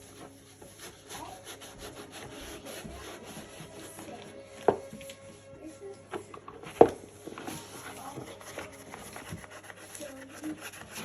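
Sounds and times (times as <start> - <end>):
scrubbing on hard surface: 0.0 - 5.8, 6.6 - 11.0.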